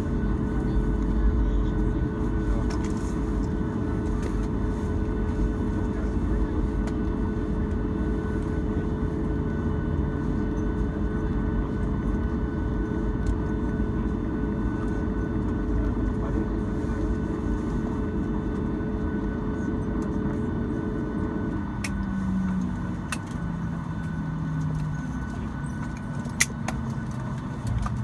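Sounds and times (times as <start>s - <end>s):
jet engines idling: 0.0s - 28.0s.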